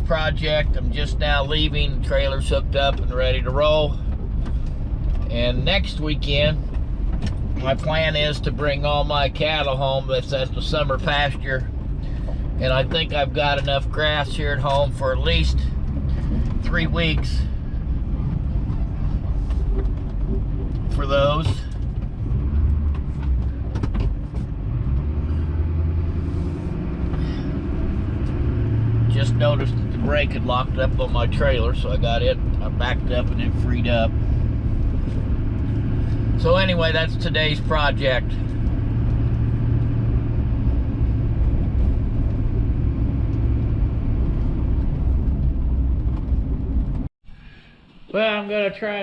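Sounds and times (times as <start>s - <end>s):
vehicle engine rumble: 0.0s - 48.1s
road noise: 0.0s - 48.9s.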